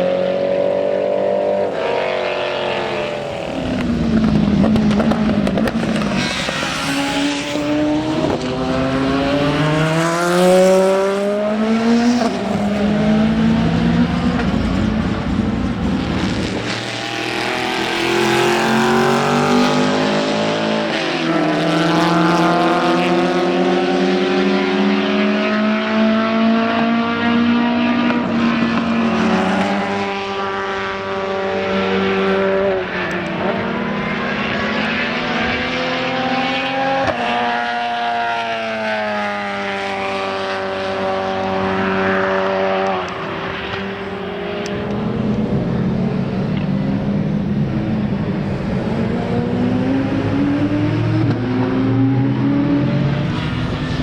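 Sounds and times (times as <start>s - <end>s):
racing car engine accelerating: 0.0s - 54.0s.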